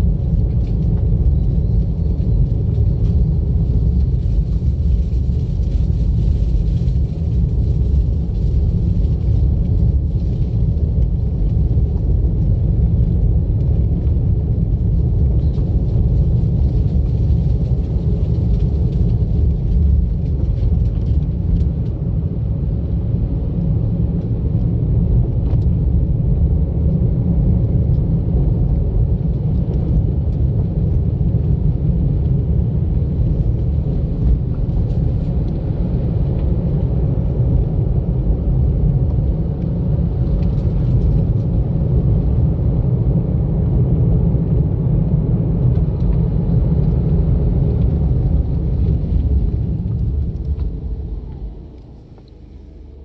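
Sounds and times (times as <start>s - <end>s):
car driving on road: 0.0s - 53.0s.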